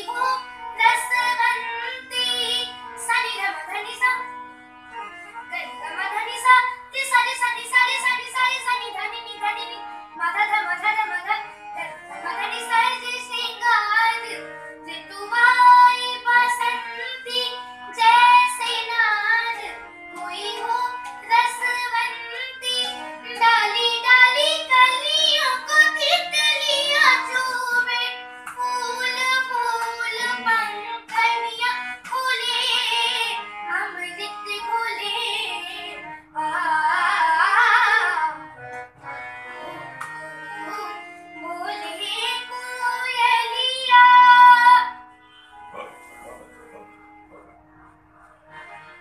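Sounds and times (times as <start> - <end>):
child singing: 0.0 - 4.3, 5.5 - 38.4, 40.6 - 44.9
held accompaniment notes: 0.0 - 49.0.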